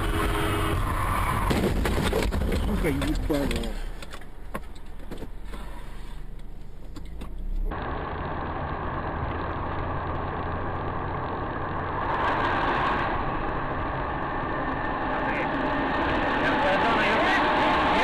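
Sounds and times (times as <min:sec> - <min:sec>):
car driving at highway speed: 0:00.0 - 0:18.0.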